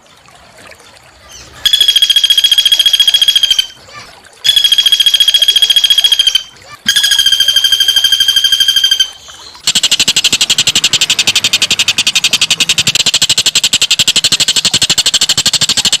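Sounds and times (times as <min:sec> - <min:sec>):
harsh rattling bird trill: 0:01.6 - 0:03.8, 0:04.5 - 0:16.0.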